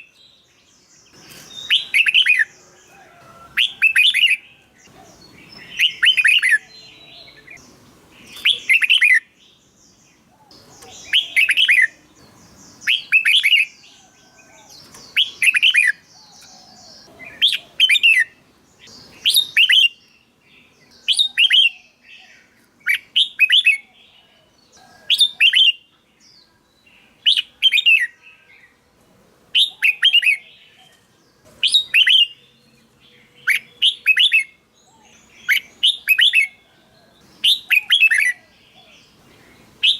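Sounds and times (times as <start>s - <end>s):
bird singing warbled phrases: 0.0s - 28.8s, 29.5s - 39.9s.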